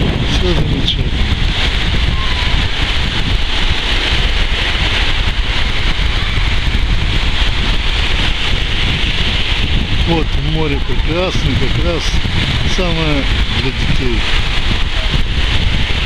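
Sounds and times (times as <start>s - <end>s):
sea waves washing onto sand: 0.0s - 16.0s
wind buffeting microphone: 0.0s - 16.0s.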